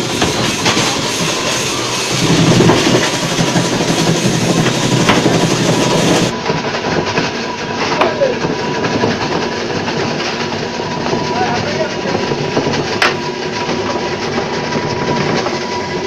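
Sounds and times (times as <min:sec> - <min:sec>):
ice crusher grinding ice: 0:00.0 - 0:16.0.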